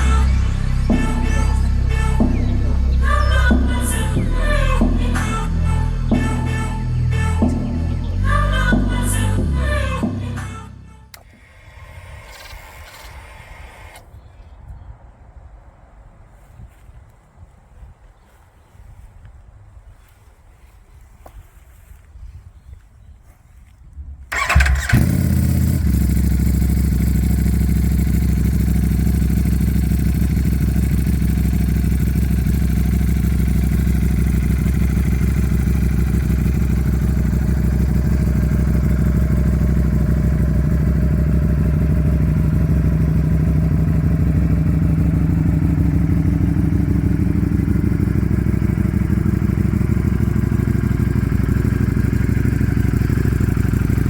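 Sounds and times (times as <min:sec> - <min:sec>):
motorcycle engine idling: 0:00.0 - 0:14.1, 0:24.3 - 0:54.0.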